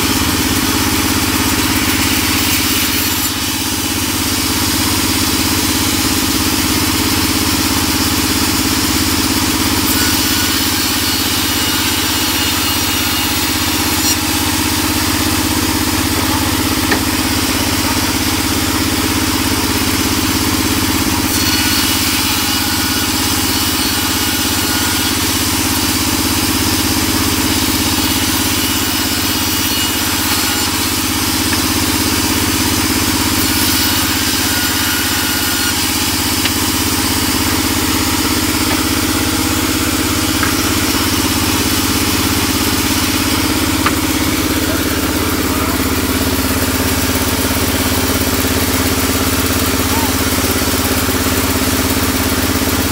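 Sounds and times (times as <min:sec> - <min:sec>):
band saw cutting wood: 0:00.0 - 0:52.9.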